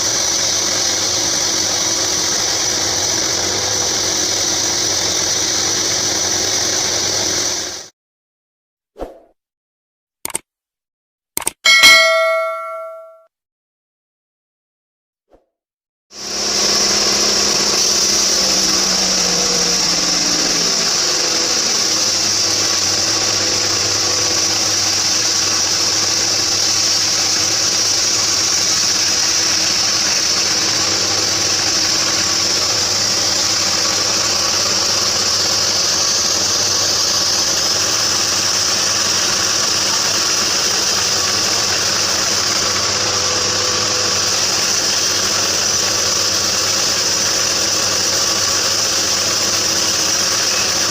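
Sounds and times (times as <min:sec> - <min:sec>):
band sawmill running: 0:00.0 - 0:07.8, 0:16.2 - 0:50.9.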